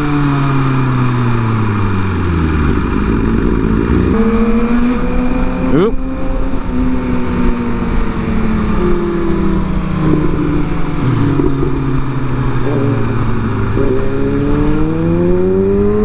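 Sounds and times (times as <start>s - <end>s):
motorcycle engine: 0.0s - 16.0s
wind rushing: 1.1s - 8.3s, 9.0s - 15.4s.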